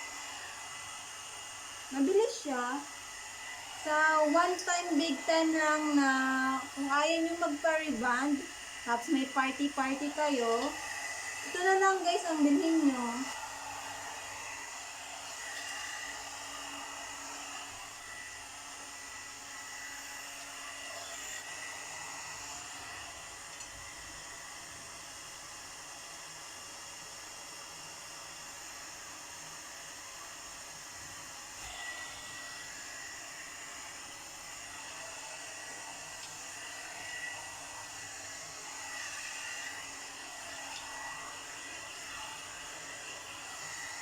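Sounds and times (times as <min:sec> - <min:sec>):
hot-air brush blowing: 0:00.0 - 0:44.0.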